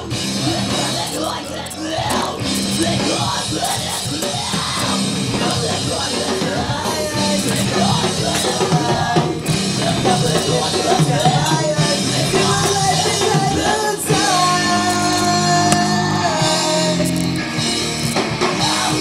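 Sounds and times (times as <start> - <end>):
person singing: 0.0 - 17.4, 18.0 - 19.0
rock music with drums: 0.0 - 19.0.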